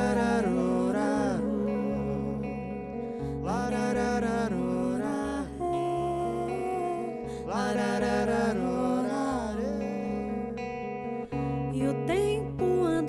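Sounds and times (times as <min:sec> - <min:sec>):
guitars and electric bass: 0:00.0 - 0:13.0
wordless melodic phrases: 0:00.0 - 0:13.0.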